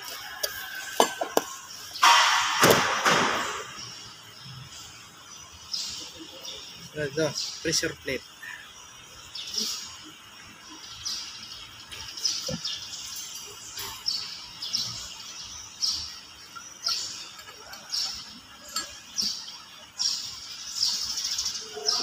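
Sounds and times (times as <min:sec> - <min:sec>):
small bird chirping: 0:03.8 - 0:22.0.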